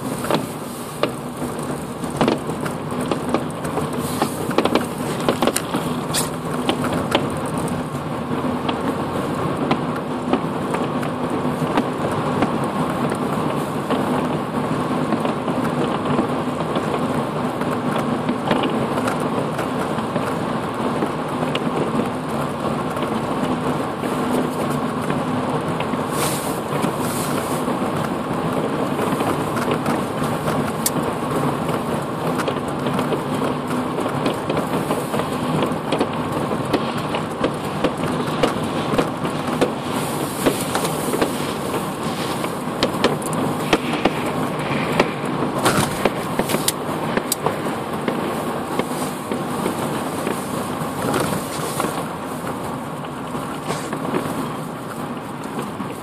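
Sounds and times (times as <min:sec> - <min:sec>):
car engine hum: 0:00.0 - 0:56.0
tyre and road noise: 0:00.0 - 0:56.0.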